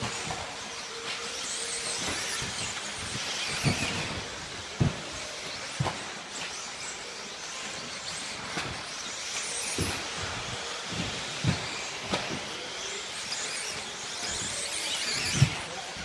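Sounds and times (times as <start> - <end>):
electric motor whines: 0.0 - 16.0.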